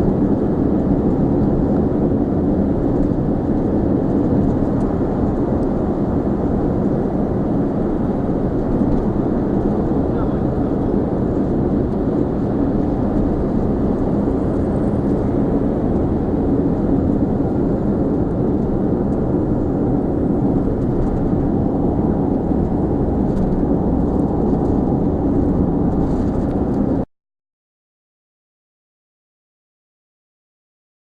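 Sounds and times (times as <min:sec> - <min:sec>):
car road and engine noise: 0:00.0 - 0:27.1.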